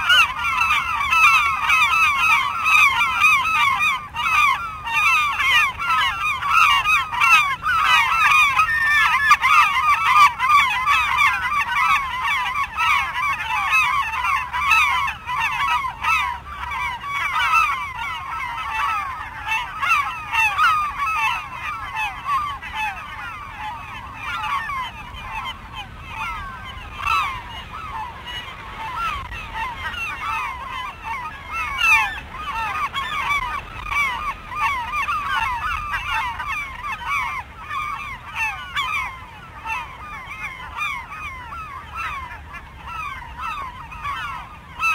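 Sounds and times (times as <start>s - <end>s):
gulls calling: 0.0s - 44.9s.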